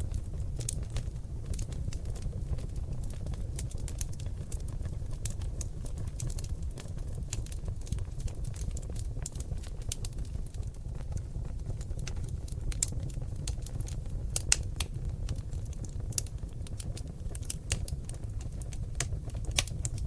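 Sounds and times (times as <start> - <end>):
fire crackling and popping: 0.0 - 20.0
fire rumbling in a fireplace: 0.0 - 20.0.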